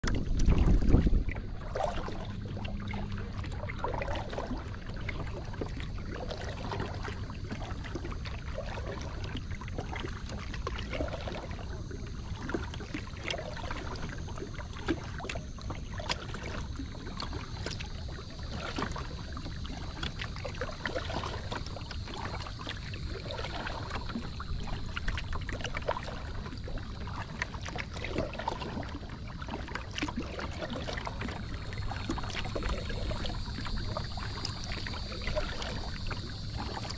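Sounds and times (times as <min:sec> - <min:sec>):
low steady rumble: 0:00.0 - 0:36.9
water lapping against kayak: 0:00.0 - 0:36.9.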